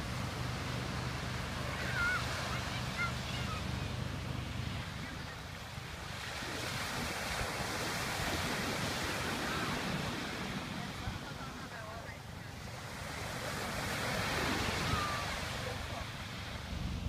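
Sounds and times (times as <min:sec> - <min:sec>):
surf washing on shore: 0:00.0 - 0:17.0
wind on microphone: 0:00.0 - 0:17.0.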